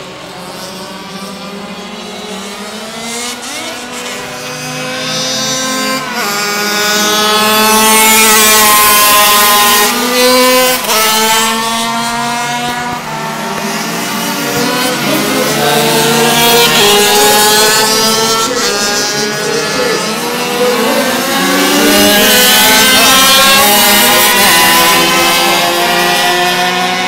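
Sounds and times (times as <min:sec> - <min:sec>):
racing motorcycles revving: 0:00.0 - 0:27.0.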